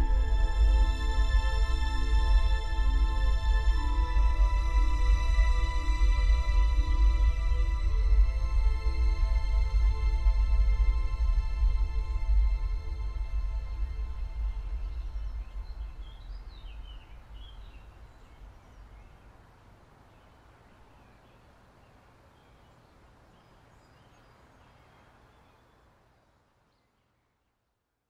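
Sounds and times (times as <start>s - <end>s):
outdoor ambience hiss: 0.0s - 28.0s.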